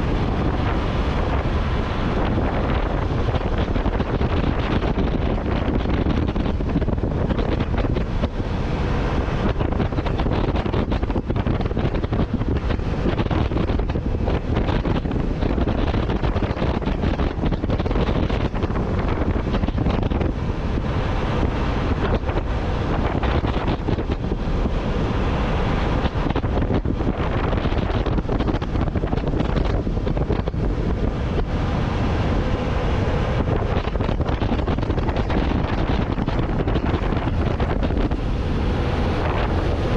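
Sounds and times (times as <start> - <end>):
truck road and engine noise: 0.0 - 39.9
wind buffeting microphone: 0.0 - 39.9.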